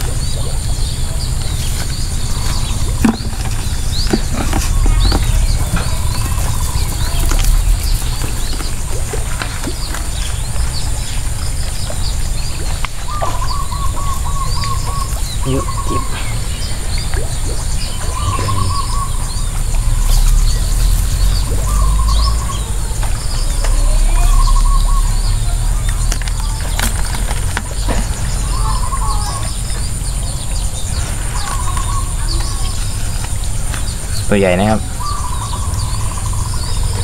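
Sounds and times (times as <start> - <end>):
low rumble: 0.0 - 34.3
birds chirping: 0.0 - 37.0
bird trilling: 1.9 - 10.6, 13.0 - 37.0.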